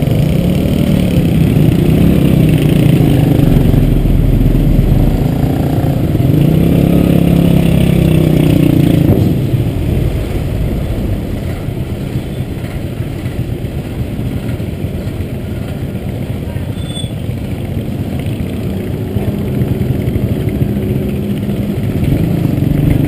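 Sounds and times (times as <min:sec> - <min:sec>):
small motorbike engines running: 0:00.0 - 0:23.0.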